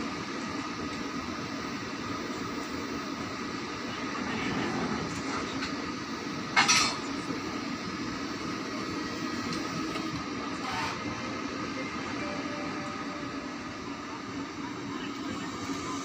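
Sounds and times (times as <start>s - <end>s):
electric locomotive hum: 0.0s - 16.0s.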